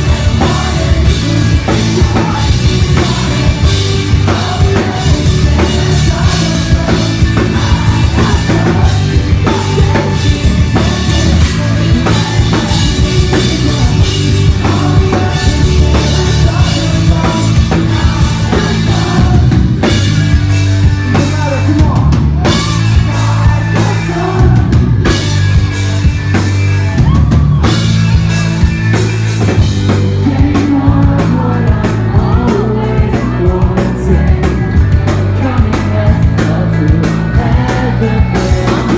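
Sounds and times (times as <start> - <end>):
heavy bass drum: 0.0 - 38.9
pop-punk band playing live: 0.0 - 38.9.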